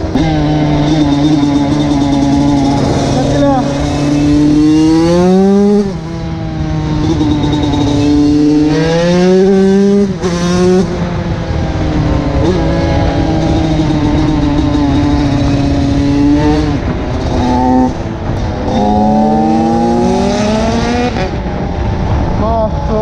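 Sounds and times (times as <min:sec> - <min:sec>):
two-stroke motorcycle engine accelerating: 0:00.0 - 0:23.0.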